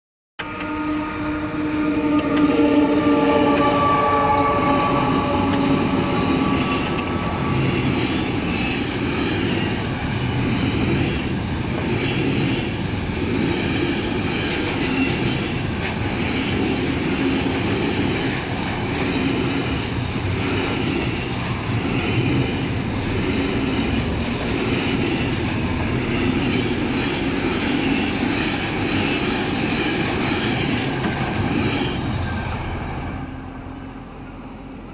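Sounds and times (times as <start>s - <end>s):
train wheels rumbling on rail: 0.4s - 34.9s.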